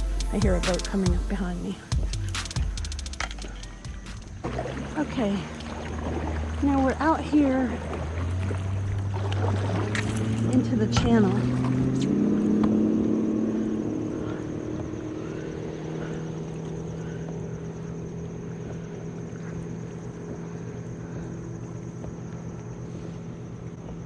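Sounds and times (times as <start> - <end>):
motorboat engine humming: 0.0 - 24.0.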